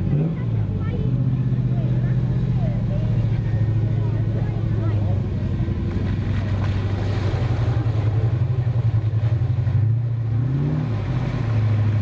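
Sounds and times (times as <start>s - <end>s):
truck engine revving in mud: 0.0s - 12.0s.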